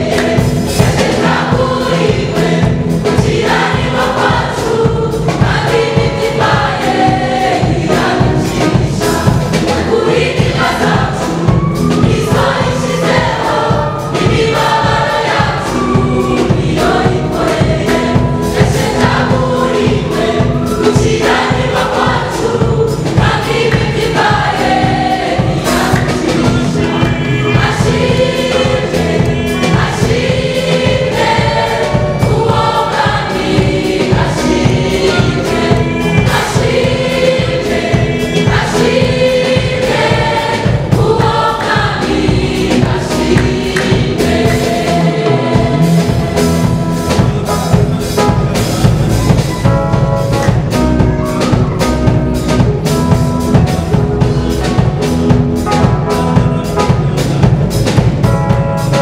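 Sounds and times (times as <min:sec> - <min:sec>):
amplified accompaniment with beat: 0:00.0 - 0:59.0
choir singing gospel: 0:00.0 - 0:59.0.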